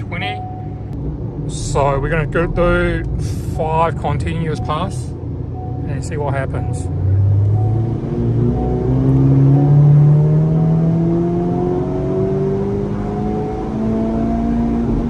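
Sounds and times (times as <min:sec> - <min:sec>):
car engine revving at full load: 0:00.8 - 0:15.0.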